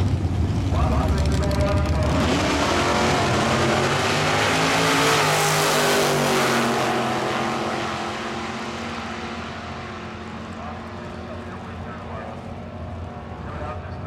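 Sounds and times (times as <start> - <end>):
racing car engines accelerating: 0.0 - 14.0.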